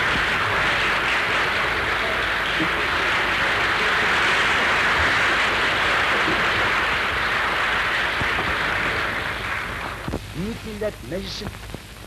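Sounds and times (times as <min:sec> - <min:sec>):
large crowd applauding: 0:00.0 - 0:10.9
recording hiss: 0:00.0 - 0:12.0.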